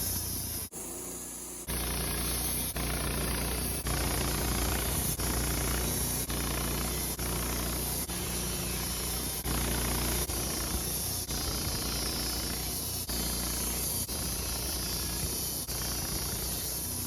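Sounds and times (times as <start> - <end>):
sawmill running: 0.0 - 17.0.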